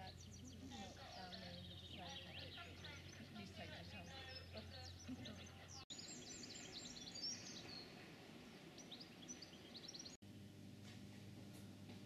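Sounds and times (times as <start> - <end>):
small birds chirping: 0.0 - 10.2
low steady hum: 0.0 - 12.0.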